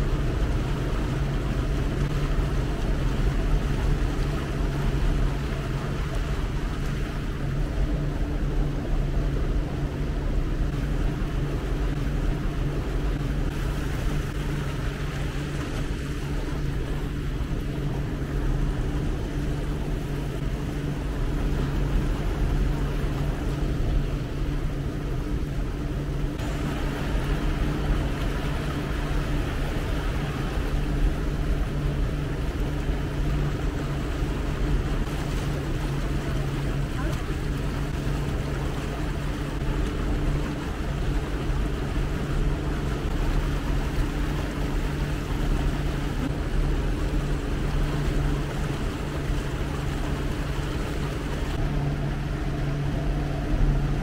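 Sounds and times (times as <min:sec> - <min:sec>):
boat engine droning: 0:00.0 - 0:54.0
water wash: 0:00.0 - 0:54.0.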